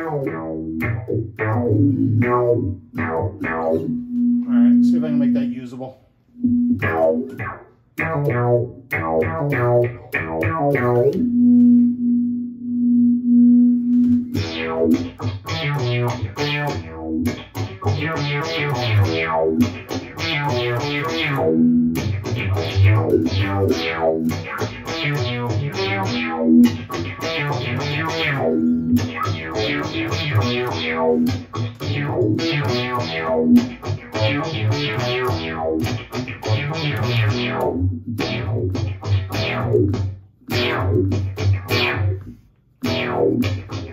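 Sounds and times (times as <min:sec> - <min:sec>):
synth-like electric guitar notes: 0:00.0 - 0:04.9, 0:06.4 - 0:43.9.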